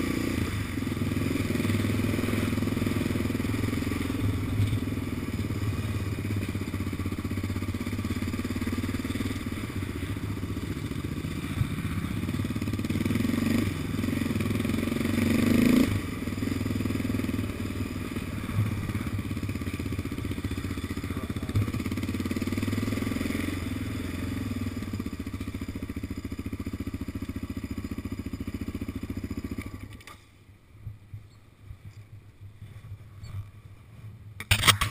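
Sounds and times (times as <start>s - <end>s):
quad bike engine revving: 0.0s - 30.1s.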